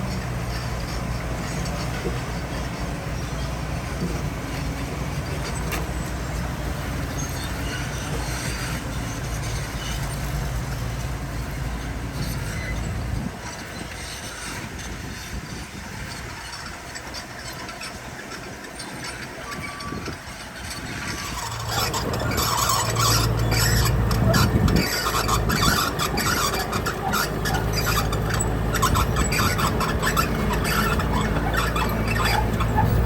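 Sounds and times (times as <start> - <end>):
diesel machinery engine drone: 0.0 - 33.0.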